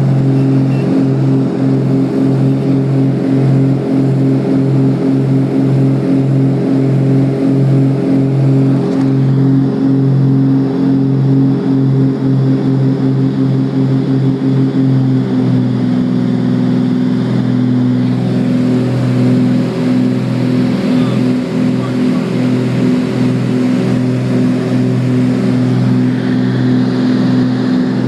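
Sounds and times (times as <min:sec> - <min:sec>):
propeller aircraft engines droning: 0:00.0 - 0:28.0.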